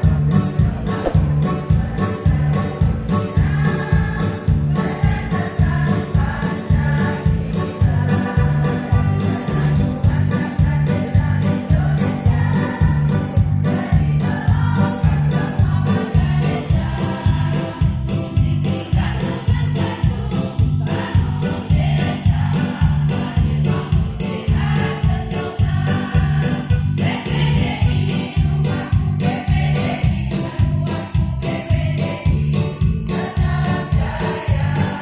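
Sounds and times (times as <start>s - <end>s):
accompaniment with steady beat: 0.0s - 35.0s
choir singing: 0.8s - 35.0s.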